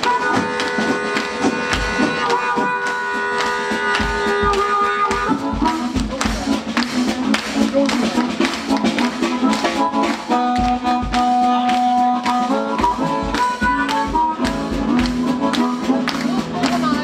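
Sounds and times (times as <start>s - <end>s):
harmonica playing: 0.0s - 17.0s.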